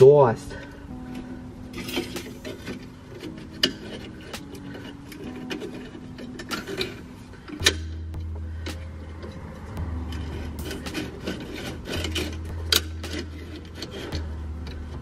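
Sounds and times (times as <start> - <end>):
light metal clicks and scraping: 0.0 - 15.0.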